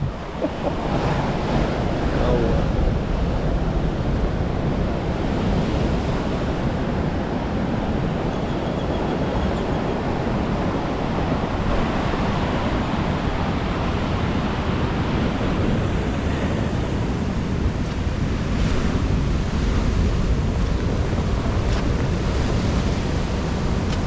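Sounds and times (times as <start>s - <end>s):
ocean surf washing on beach: 0.0s - 24.0s
wind buffeting microphone: 0.0s - 24.0s.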